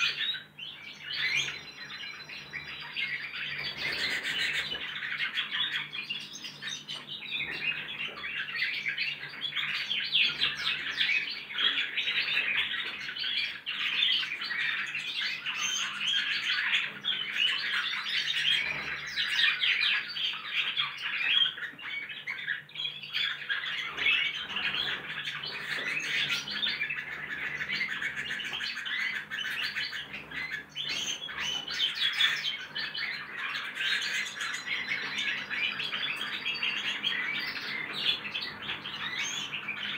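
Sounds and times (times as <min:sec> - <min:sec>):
young birds twittering and chirping: 0:00.0 - 0:39.9.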